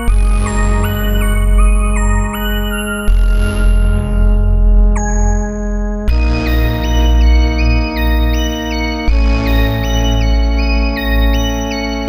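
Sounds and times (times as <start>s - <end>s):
lively synth pop music: 0.0s - 12.0s.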